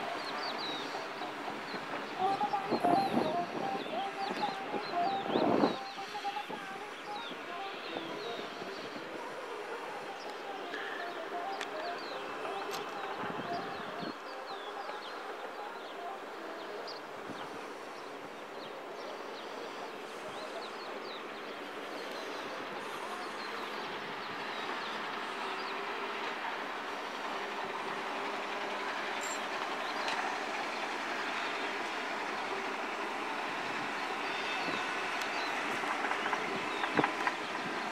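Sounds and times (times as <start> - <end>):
distant road traffic: 0.0 - 37.9.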